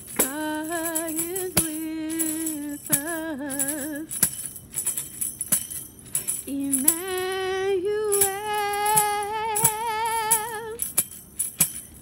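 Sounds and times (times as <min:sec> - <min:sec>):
tambourine struck and shaken: 0:00.0 - 0:12.0.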